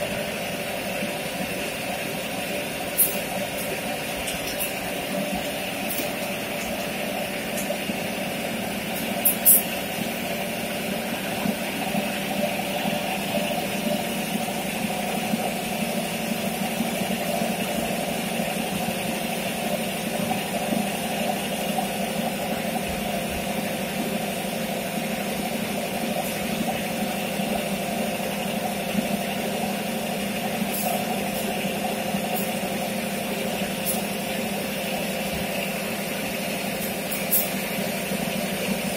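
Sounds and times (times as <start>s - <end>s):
filling machine humming: 0.0s - 38.9s.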